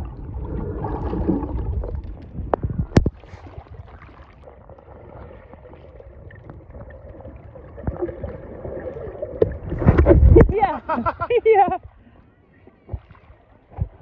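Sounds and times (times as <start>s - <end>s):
water sloshing: 0.0s - 11.9s.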